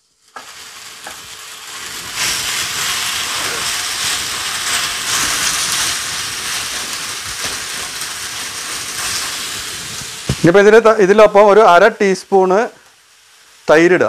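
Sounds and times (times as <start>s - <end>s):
chicken sizzling in frying pan: 0.0s - 14.0s.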